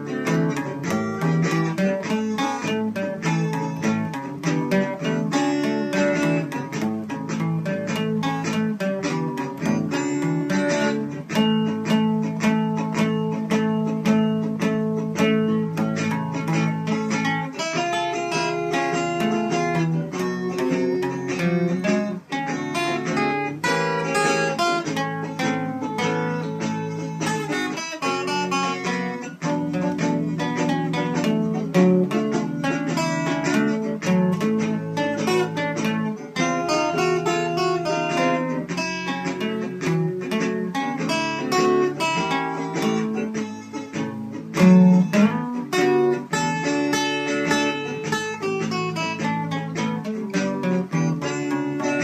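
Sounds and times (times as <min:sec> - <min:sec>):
acoustic guitar picking and strumming: 0:00.0 - 0:52.0.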